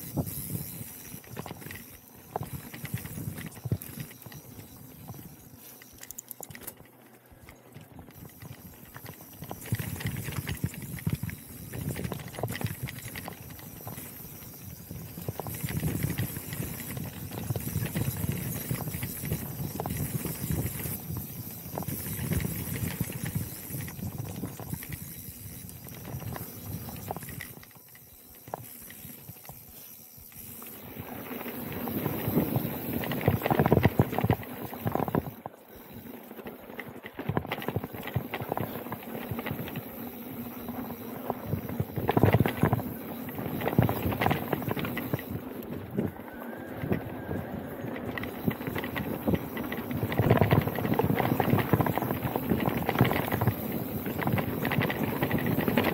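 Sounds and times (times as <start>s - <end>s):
bike rattling over bumps: 0.0s - 55.9s
bike tyres rolling on dirt: 0.0s - 55.9s.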